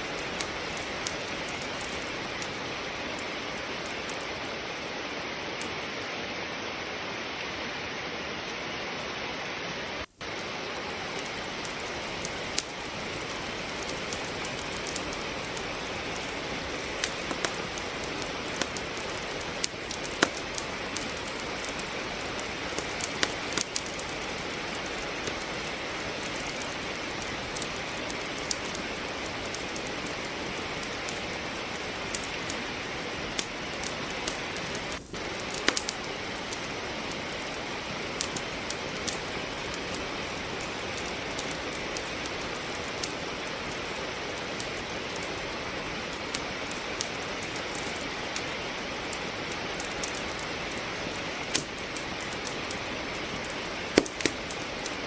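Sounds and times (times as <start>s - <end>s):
steady rain hiss: 0.0s - 55.0s
wood fire crackling: 0.0s - 55.0s.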